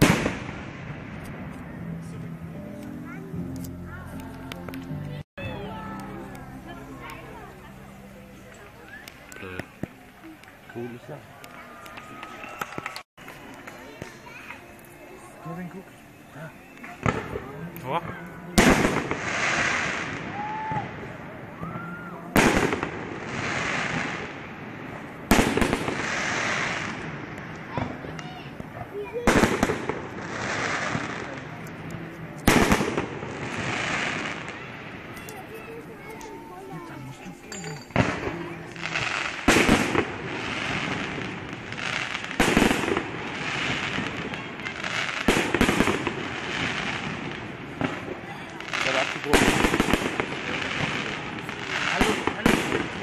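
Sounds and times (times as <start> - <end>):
firework stars crackling: 0.0 - 53.0
steady hiss: 5.6 - 53.0.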